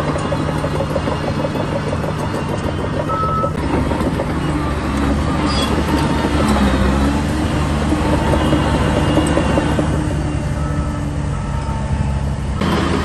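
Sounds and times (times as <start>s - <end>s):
clatter of tracks: 0.0s - 10.8s, 11.6s - 13.0s
bulldozer diesel engine: 0.0s - 13.0s.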